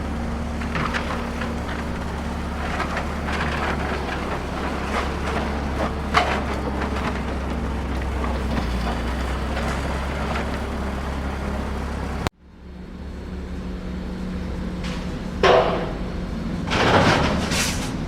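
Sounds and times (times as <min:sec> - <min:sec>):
construction machinery engine rumble: 0:00.0 - 0:18.0.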